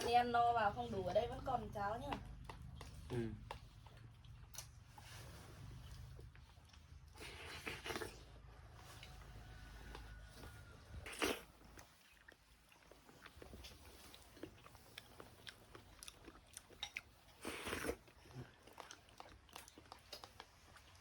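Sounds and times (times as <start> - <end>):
faint chewing: 0.0 - 21.0.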